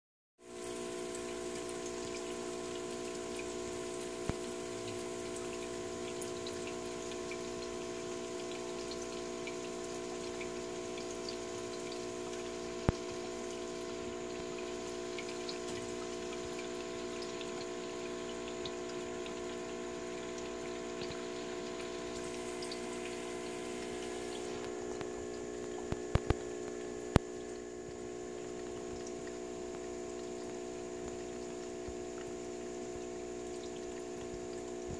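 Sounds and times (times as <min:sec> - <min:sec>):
aquarium pump humming: 0:00.4 - 0:34.9
water bubbling and trickling: 0:00.4 - 0:34.9.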